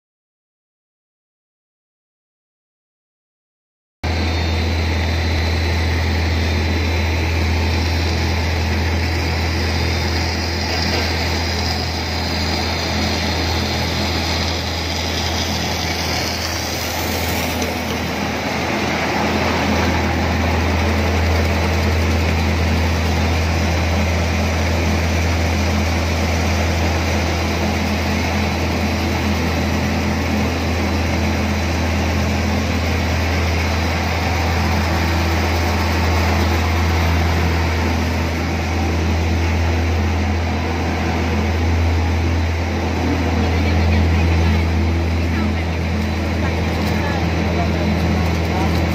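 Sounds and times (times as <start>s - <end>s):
low hum: 4.0s - 48.9s
machinery drone: 4.0s - 48.9s.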